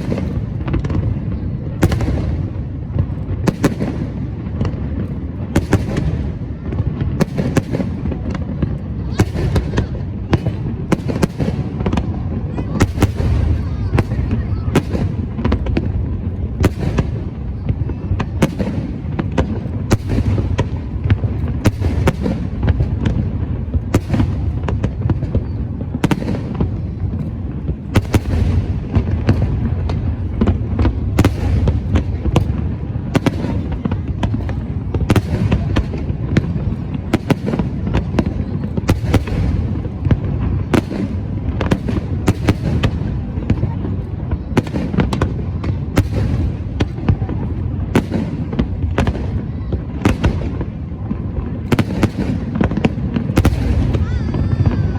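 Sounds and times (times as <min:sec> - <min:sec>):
fireworks bangs and cracks: 0:00.0 - 0:54.9.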